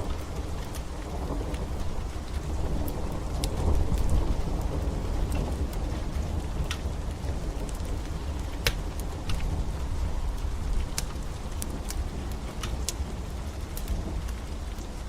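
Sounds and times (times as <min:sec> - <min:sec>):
steady rain: 0:00.0 - 0:15.0
wood fire crackling and popping: 0:00.0 - 0:15.0.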